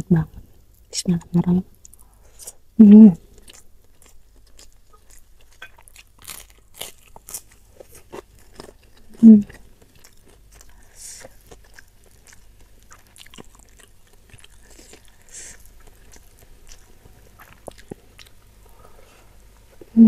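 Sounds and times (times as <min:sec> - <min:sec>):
chewing food: 0:03.2 - 0:19.9.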